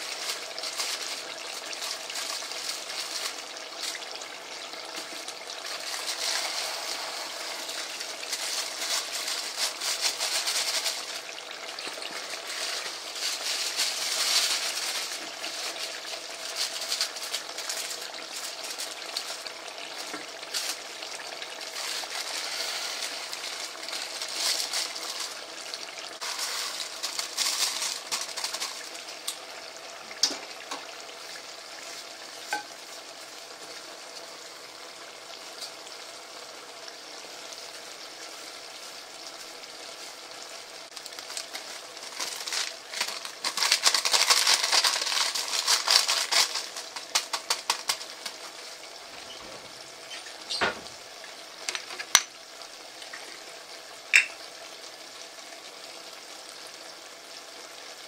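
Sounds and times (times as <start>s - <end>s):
rice and chicken sizzling: 0.0s - 58.0s.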